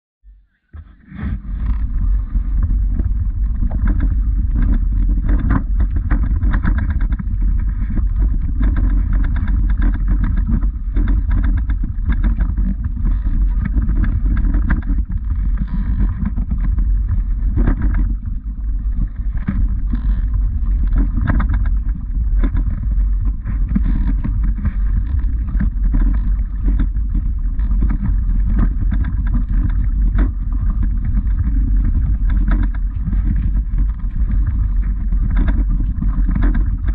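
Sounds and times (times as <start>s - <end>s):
wind buffeting microphone: 0.8s - 36.9s.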